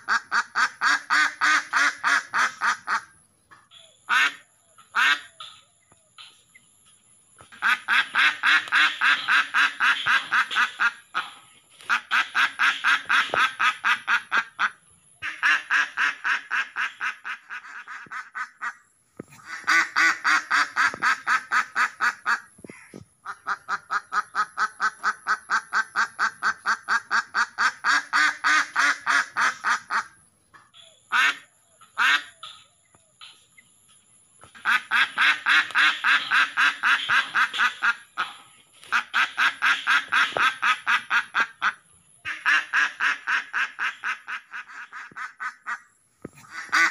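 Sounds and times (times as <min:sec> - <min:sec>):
duck quacking rapidly: 0:00.0 - 0:03.1, 0:04.1 - 0:05.3, 0:07.5 - 0:18.8, 0:19.4 - 0:30.2, 0:31.1 - 0:31.4, 0:34.5 - 0:45.8, 0:46.4 - 0:46.9.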